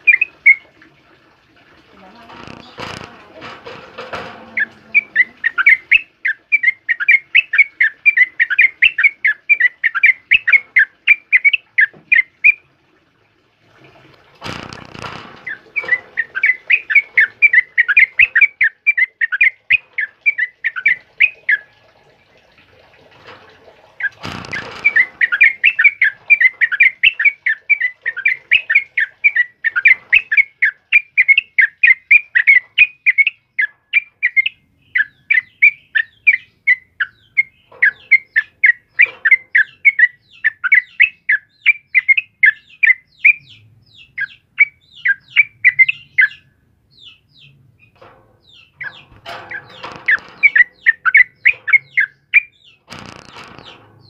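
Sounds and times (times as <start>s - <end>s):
bird singing rapid chattering notes: 0.0s - 0.6s, 4.1s - 12.6s, 14.7s - 21.7s, 24.0s - 53.9s.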